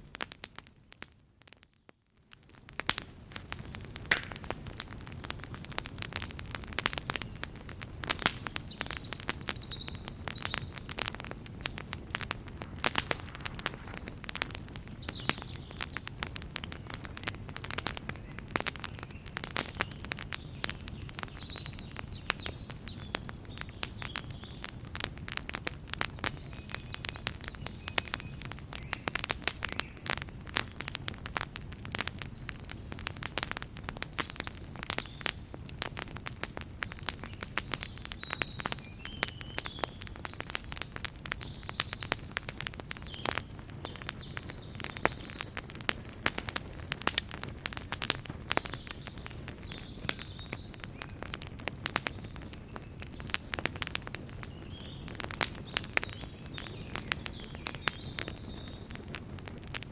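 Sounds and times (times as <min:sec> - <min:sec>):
campfire crackling: 0:00.0 - 0:59.9
low rumble of flame: 0:00.0 - 0:59.9.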